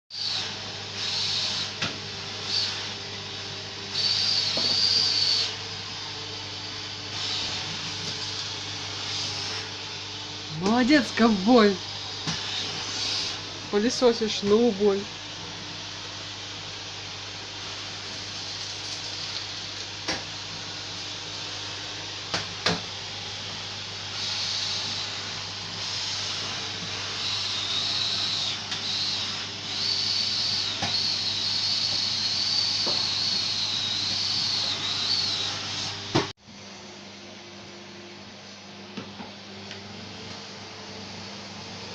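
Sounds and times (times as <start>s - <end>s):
vacuum cleaner running: 0.1s - 41.9s.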